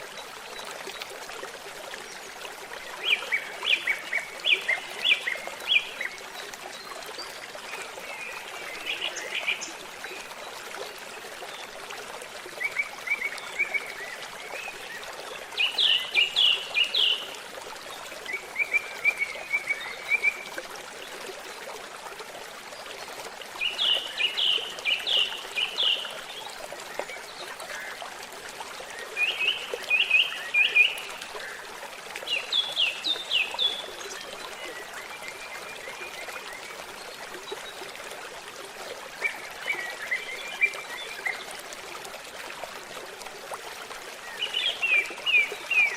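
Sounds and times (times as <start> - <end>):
babbling stream: 0.0 - 45.9.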